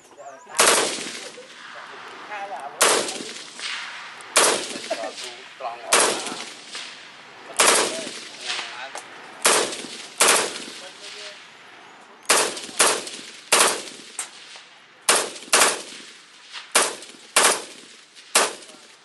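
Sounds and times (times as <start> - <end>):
rifle single shots with echo: 0.5 - 2.2, 2.8 - 8.8, 9.4 - 11.6, 12.2 - 19.0.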